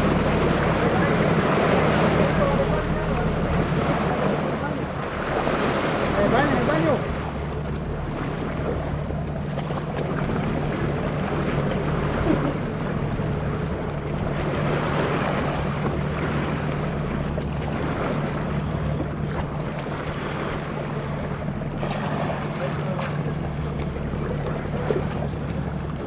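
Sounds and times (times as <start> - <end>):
sea water sloshing: 0.0 - 26.0
steady low hum: 0.0 - 26.0.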